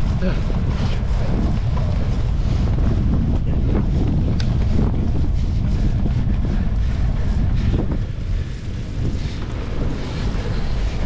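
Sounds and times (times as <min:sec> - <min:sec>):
heavy low rumble: 0:00.0 - 0:11.0
wind buffeting microphone: 0:00.0 - 0:11.0.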